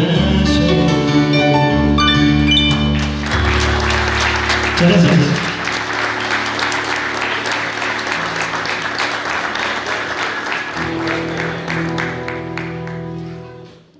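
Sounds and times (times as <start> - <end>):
live band holding chords: 0.0 - 13.9
audience applause: 2.4 - 13.9.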